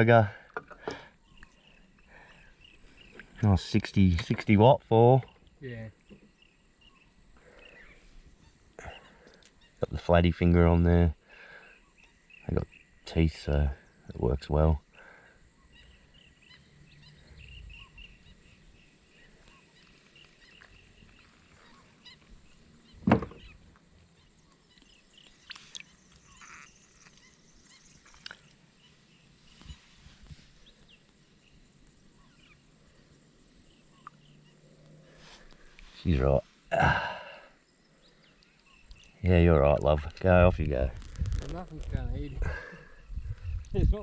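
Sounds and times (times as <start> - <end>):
faint bird calls: 0.0 - 44.0.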